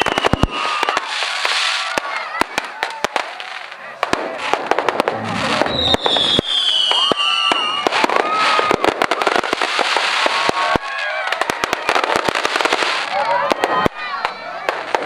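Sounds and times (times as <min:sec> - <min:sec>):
fireworks bangs and crackling: 0:00.0 - 0:15.0
whistling firework: 0:00.0 - 0:15.0.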